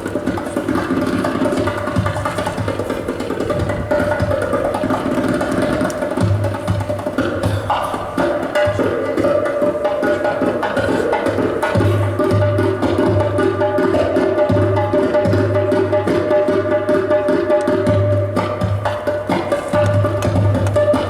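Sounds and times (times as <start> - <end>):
hand percussion: 0.0 - 21.0.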